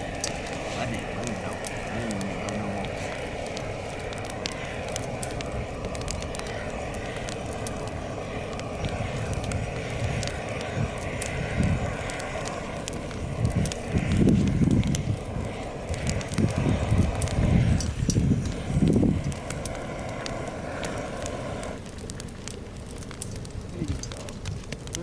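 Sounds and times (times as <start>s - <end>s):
campfire crackles and pops: 0.0s - 25.0s
low rumbling gusts: 0.0s - 25.0s
steady rushing hiss: 0.0s - 25.0s.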